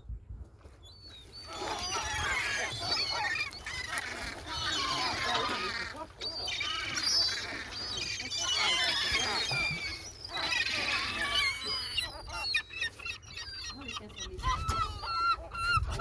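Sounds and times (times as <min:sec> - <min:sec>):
gulls squawking: 0:01.3 - 0:16.0.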